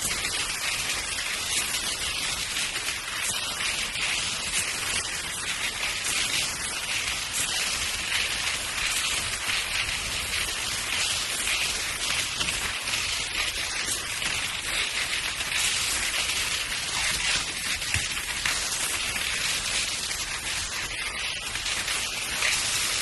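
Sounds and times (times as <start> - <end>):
skis hissing on snow: 0.0 - 23.0.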